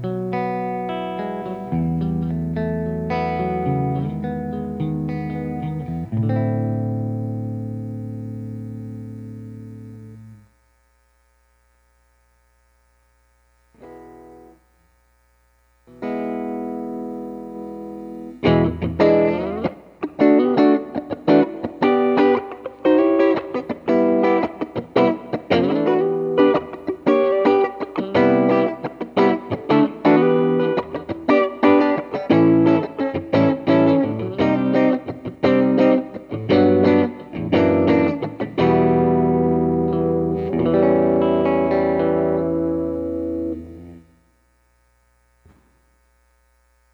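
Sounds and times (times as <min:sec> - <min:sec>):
electric guitar chords: 0:00.0 - 0:10.7, 0:13.7 - 0:14.8, 0:15.8 - 0:44.7
faint hum: 0:00.0 - 0:46.9.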